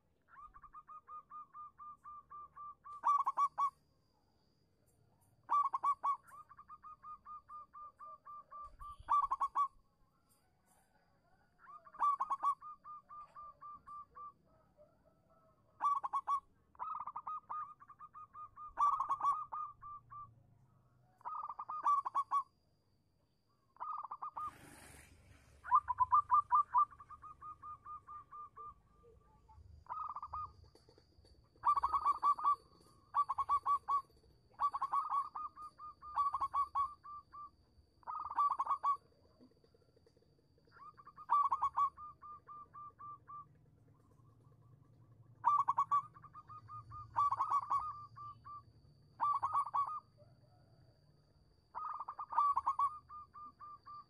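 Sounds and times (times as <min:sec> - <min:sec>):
dove cooing: 0:00.0 - 0:03.8, 0:05.4 - 0:09.8, 0:10.6 - 0:20.3, 0:21.2 - 0:22.5, 0:23.8 - 0:25.0, 0:25.6 - 0:48.6, 0:49.2 - 0:50.9, 0:51.7 - 0:54.0.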